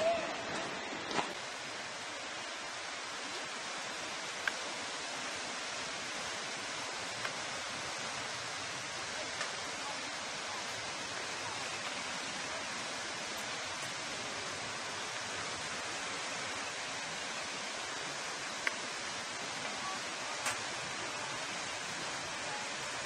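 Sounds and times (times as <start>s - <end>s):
rushing river water: 0.0s - 23.0s.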